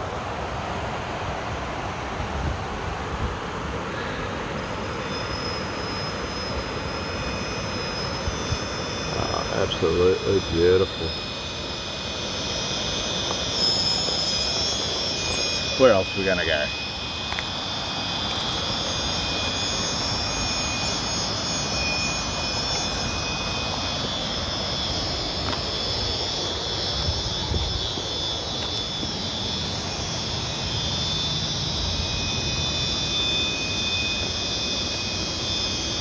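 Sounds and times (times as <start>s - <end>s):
high steady whine: 0.0s - 36.0s.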